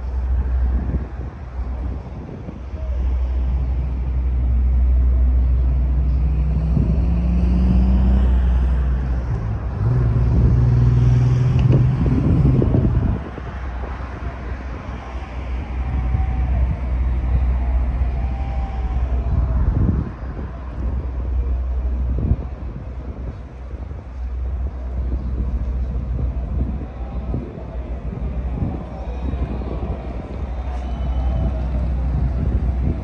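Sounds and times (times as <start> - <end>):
traffic passing: 0.0 - 33.0.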